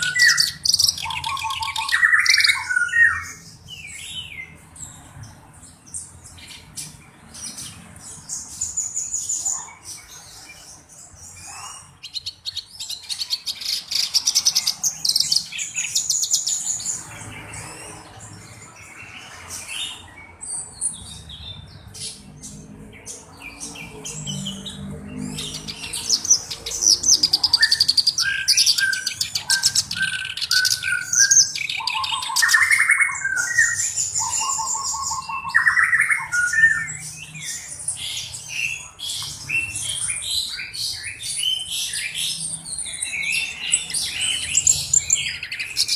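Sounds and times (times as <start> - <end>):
warbler singing chattering song: 0.0 - 45.9.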